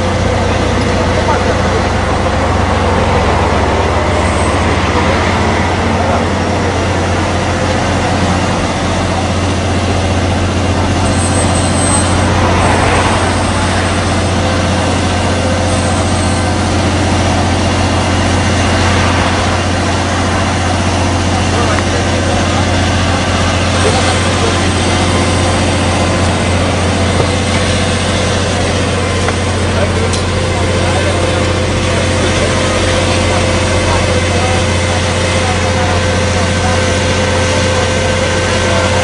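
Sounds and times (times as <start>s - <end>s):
faint voices: 0.0s - 39.0s
truck engine droning: 0.0s - 39.0s.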